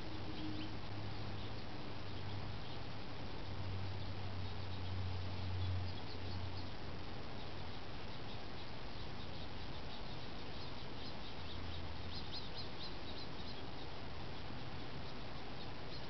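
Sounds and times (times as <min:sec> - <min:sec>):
small birds chirping: 0:00.0 - 0:16.0
steady background hiss: 0:00.0 - 0:16.0.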